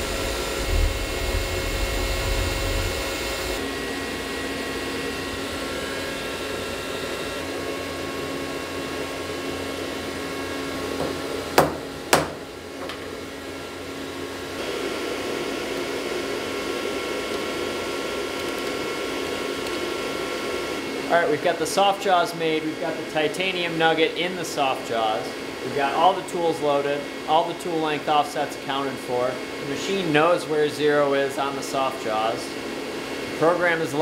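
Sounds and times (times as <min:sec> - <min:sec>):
milling machine whirring: 0:00.0 - 0:11.7, 0:14.4 - 0:34.0.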